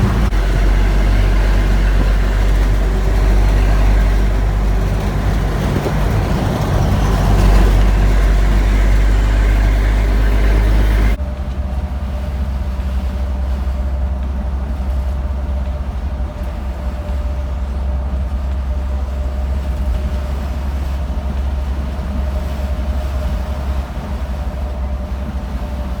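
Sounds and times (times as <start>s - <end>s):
moving vehicle rumble: 0.0s - 26.0s.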